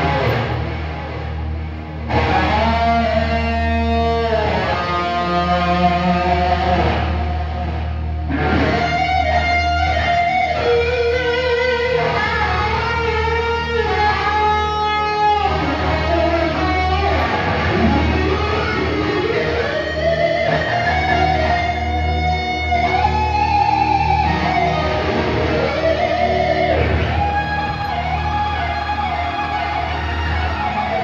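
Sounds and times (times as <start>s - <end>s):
electric guitar bending notes: 0.0s - 31.0s
rock band playing: 0.0s - 31.0s.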